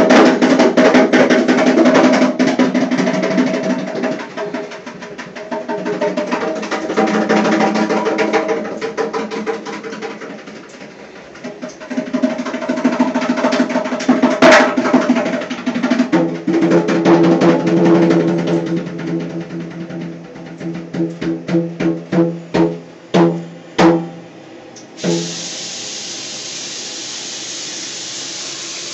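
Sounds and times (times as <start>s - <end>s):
hand drumming on steel sink: 0.0s - 24.2s, 25.0s - 25.8s.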